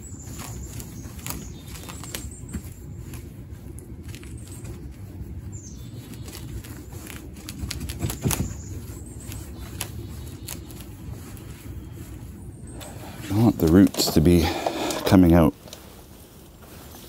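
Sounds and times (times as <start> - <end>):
roots and soil scratching: 0.0 - 17.0.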